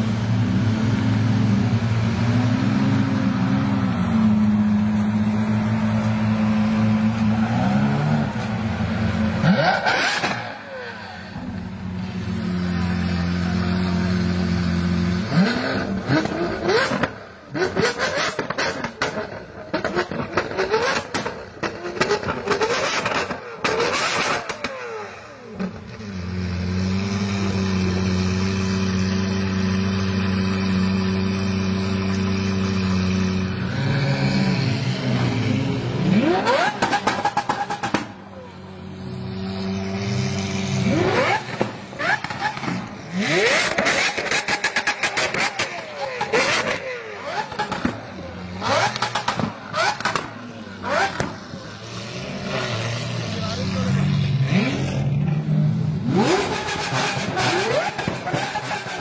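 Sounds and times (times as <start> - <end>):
sports car engine revving: 0.0 - 59.0.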